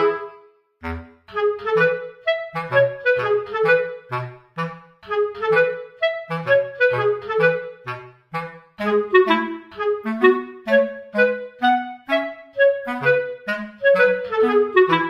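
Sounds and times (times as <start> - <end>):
bouncy clarinet melody: 0.0 - 15.0.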